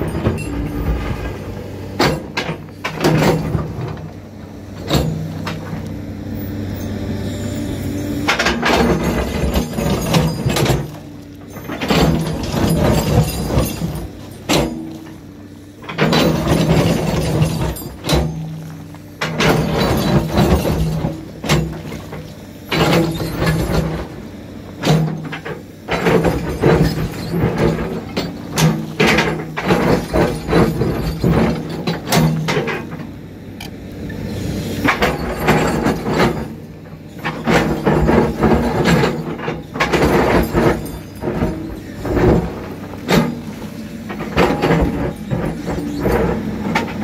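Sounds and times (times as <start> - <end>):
bulldozer clanks and knocks: 0.0 - 47.0
bulldozer diesel engine running: 0.0 - 47.0.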